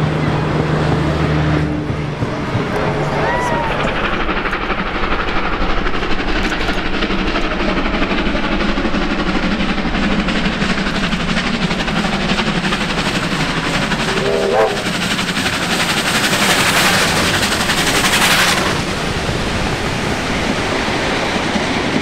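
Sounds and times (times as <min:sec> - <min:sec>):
steam locomotives chuffing: 0:00.0 - 0:22.0.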